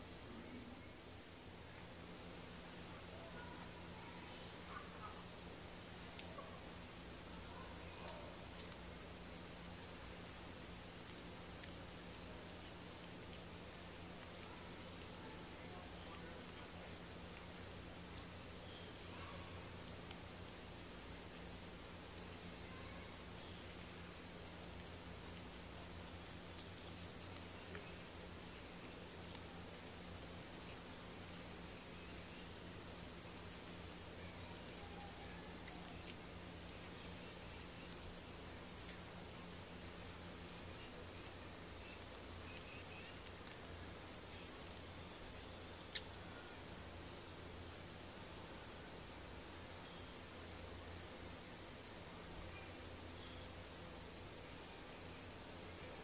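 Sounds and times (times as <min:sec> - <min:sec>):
nestlings begging chirps: 0:01.3 - 0:56.0.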